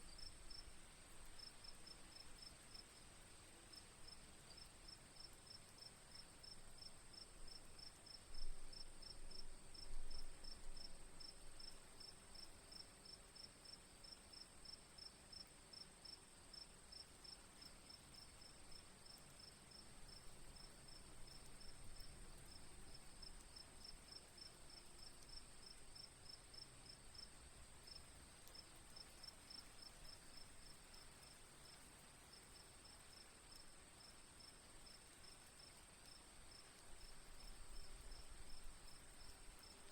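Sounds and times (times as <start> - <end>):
faint hiss: 0.0 - 39.9.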